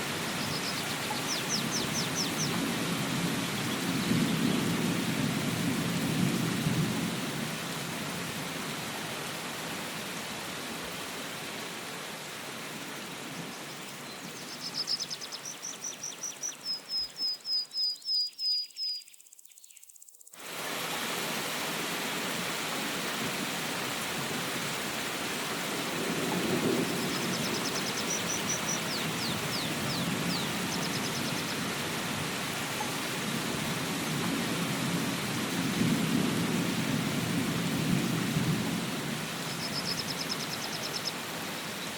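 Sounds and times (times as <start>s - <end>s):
steady rain falling: 0.0s - 17.4s, 20.4s - 41.9s.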